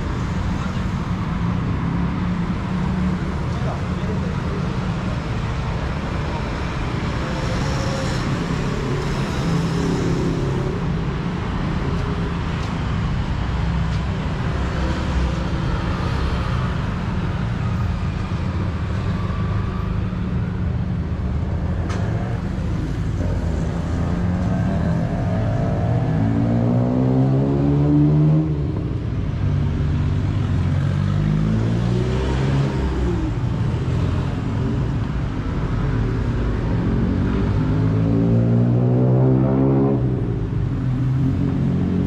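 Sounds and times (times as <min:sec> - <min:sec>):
vehicle engines rumbling: 0:00.0 - 0:42.0.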